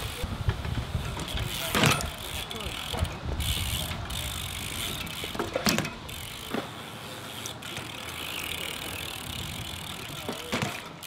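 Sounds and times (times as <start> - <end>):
bike tyres rolling on concrete: 0.0 - 11.0.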